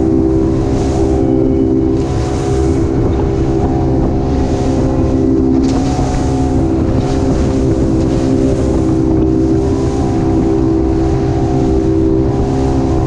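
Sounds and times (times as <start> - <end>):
motorboat engine drone: 0.0 - 13.0
water rushing along hull: 0.0 - 13.0
wind on microphone: 0.0 - 13.0.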